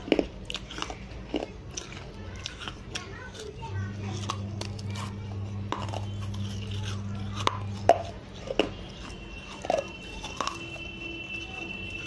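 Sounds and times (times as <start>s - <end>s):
clay crunching when bitten: 0.0s - 10.7s.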